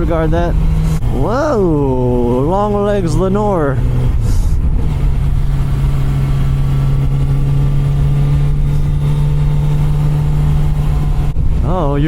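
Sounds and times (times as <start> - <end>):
low wind rumble: 0.0 - 12.0
motorcycle engine cruising: 0.0 - 12.0.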